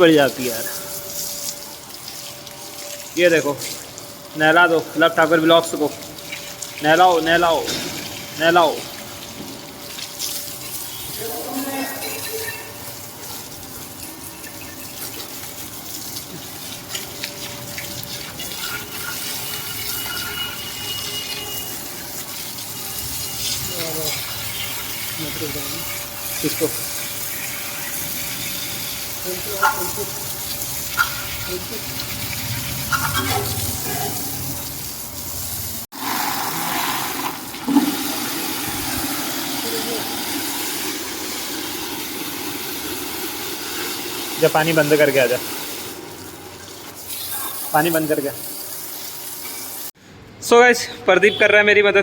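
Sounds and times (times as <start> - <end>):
hose water hissing: 0.0 - 50.0.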